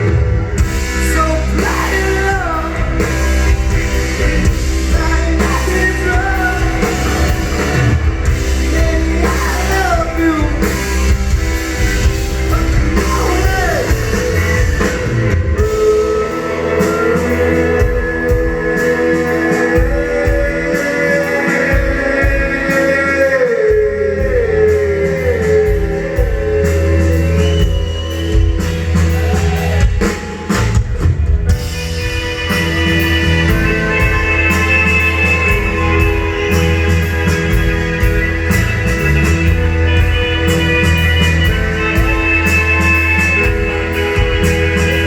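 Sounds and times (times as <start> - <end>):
drum and cymbal hits: 0.0 - 45.0
electric guitar: 0.0 - 45.0
throbbing bass: 0.0 - 45.0.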